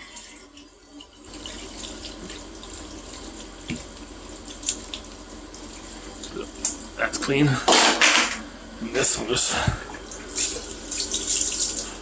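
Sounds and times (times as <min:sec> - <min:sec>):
tap water pouring into sink: 0:00.0 - 0:08.5, 0:09.6 - 0:12.0.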